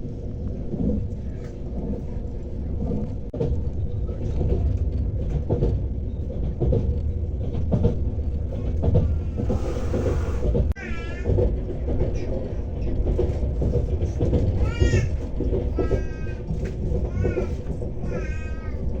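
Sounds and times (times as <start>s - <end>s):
moving train rumble: 0.0s - 19.0s.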